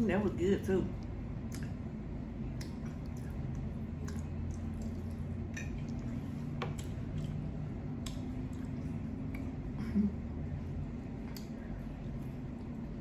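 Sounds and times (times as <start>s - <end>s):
steady low hum: 0.0s - 13.0s
chewing and wet mouth sounds: 0.9s - 9.8s, 10.5s - 13.0s.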